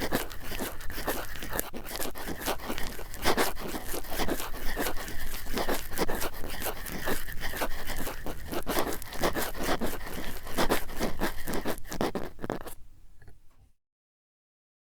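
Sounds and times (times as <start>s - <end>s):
cotton swabs scratching microphone: 0.0s - 13.4s.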